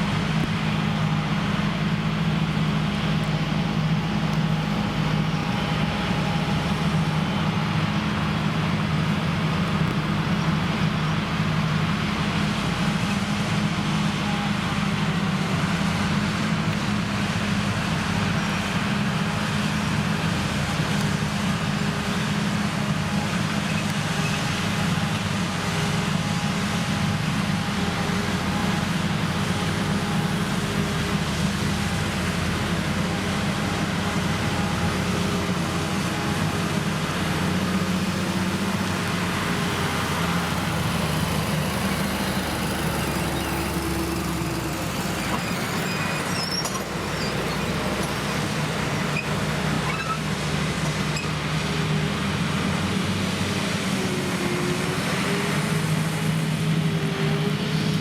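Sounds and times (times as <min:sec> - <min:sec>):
forage harvester running under load: 0:00.0 - 0:58.0.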